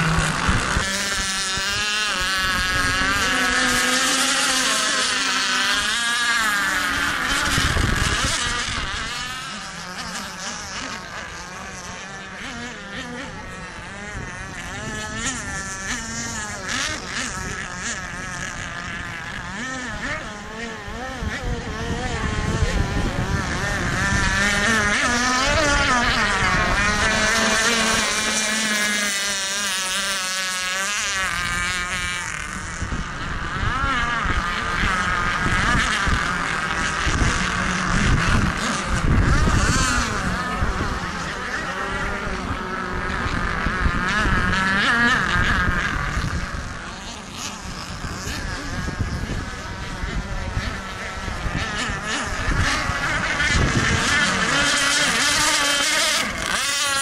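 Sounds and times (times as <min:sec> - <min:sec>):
model boat engines whining: 0:00.0 - 0:57.0.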